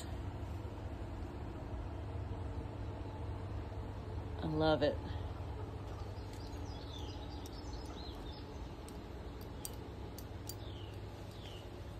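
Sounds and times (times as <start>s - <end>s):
low background hum: 0.0s - 11.9s.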